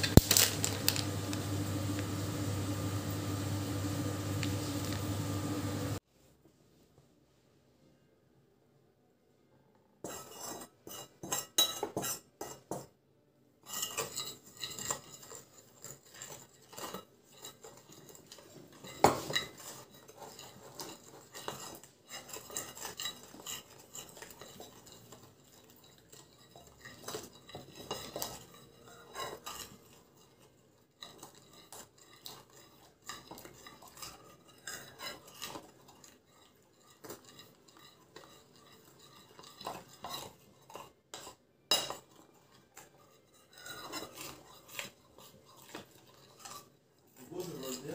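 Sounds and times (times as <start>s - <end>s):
metal utensil scraping ceramic bowl: 0.0s - 6.0s, 10.0s - 12.8s, 13.6s - 47.9s.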